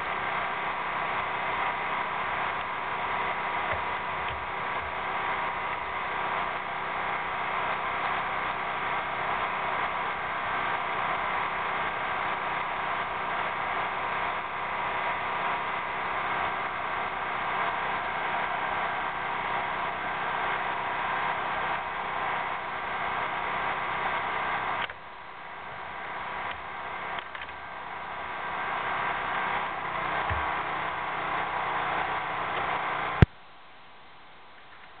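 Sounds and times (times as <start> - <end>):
steady mechanical hum: 0.0 - 35.0.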